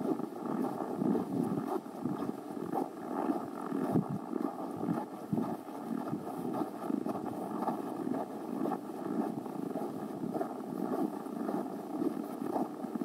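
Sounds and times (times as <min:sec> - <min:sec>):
rustling on microphone: 0:00.0 - 0:13.0
wind on microphone: 0:00.0 - 0:13.0.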